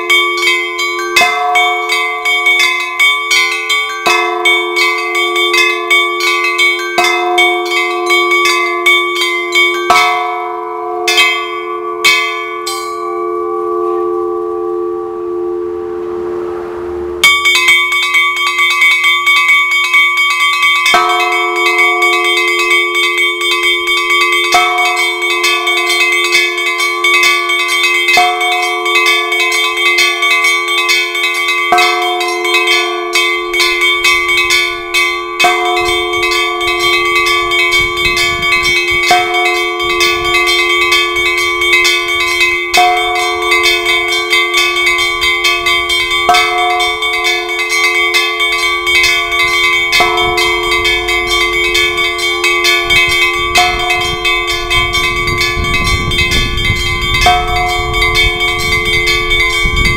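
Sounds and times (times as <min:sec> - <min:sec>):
small bells rung rapidly: 0:00.0 - 0:14.9, 0:17.2 - 0:59.9
large bell strikes: 0:00.0 - 0:59.9.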